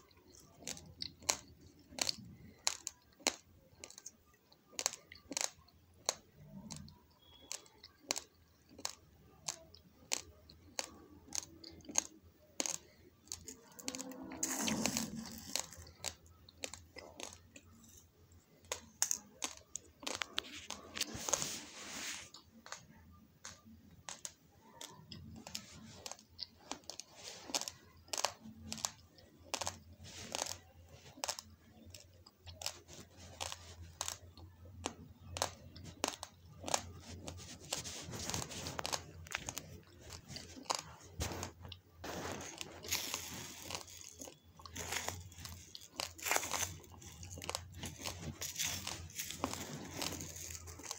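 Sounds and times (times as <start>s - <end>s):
rice grains being chewed: 0.0s - 50.9s.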